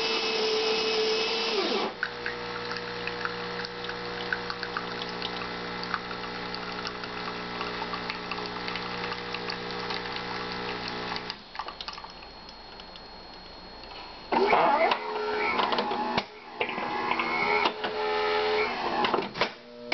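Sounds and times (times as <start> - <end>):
espresso machine pump humming: 0.0 - 19.9.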